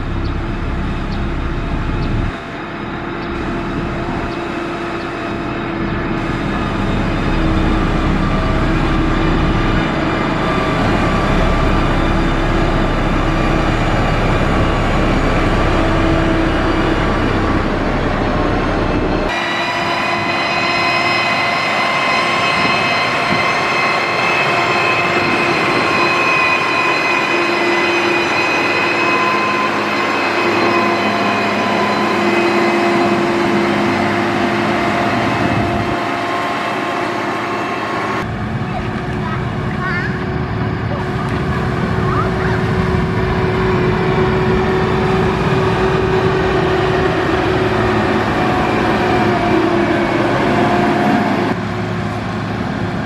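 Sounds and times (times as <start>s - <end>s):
machine whining tones: 0.0s - 52.5s
construction machine engine rumbling: 0.0s - 53.0s.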